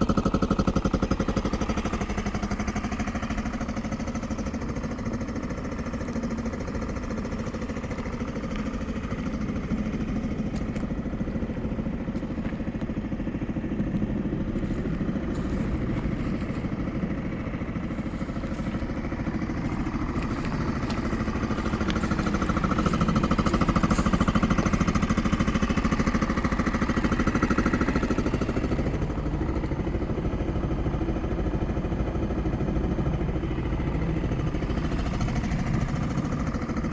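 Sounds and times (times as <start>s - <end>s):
scooter engine idling: 0.0s - 36.9s.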